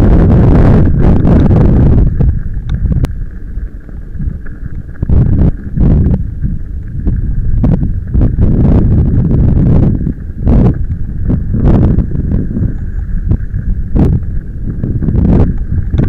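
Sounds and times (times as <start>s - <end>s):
bicycle tyres rolling on gravel: 0.0s - 16.0s
wind buffeting microphone: 0.0s - 16.0s.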